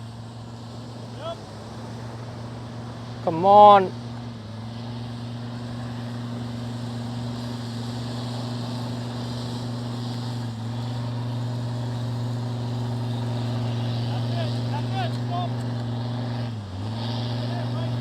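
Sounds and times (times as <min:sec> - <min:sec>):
vehicle engine running under load: 0:00.0 - 0:18.0.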